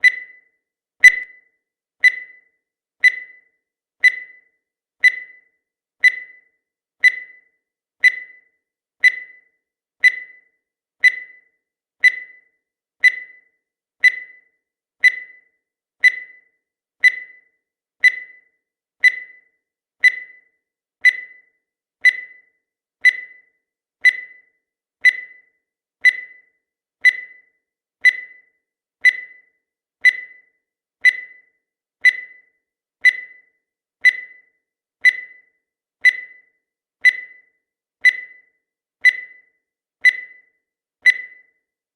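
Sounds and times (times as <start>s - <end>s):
high electronic timer blips: 0.0s - 1.4s, 2.0s - 41.7s.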